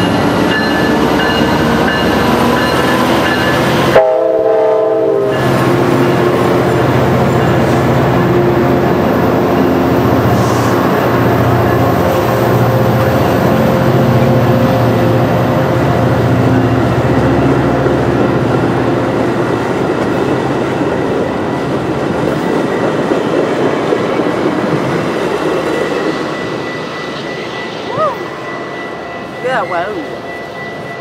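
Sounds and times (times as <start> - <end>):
locomotive engine droning: 0.0 - 31.0
train cars rolling past: 0.0 - 31.0.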